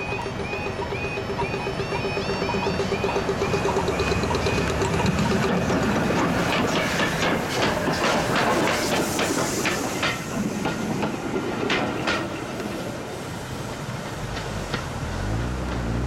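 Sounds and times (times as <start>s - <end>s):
train wheels clicking over rail joints: 0.0s - 16.0s.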